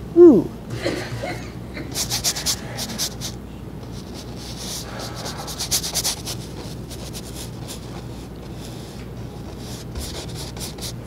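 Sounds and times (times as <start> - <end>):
steady low hum: 0.0 - 11.0
paintbrush scrubbing on canvas: 1.9 - 11.0.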